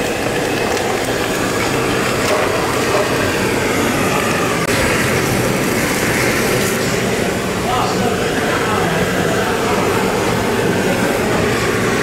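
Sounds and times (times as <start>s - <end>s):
gas blowtorch flame: 0.0s - 12.0s.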